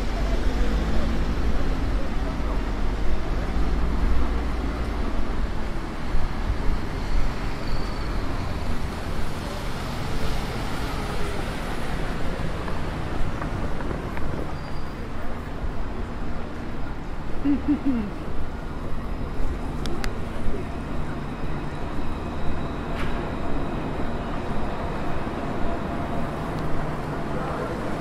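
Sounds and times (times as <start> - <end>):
traffic on wet road: 0.0 - 28.0.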